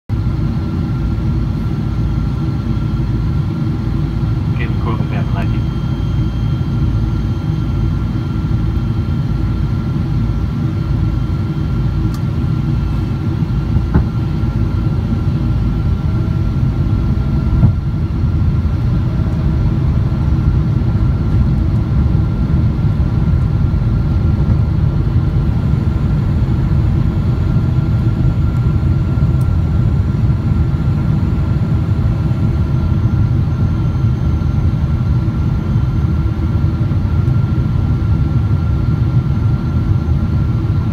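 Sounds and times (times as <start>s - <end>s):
airplane cabin rumble: 0.1s - 40.9s.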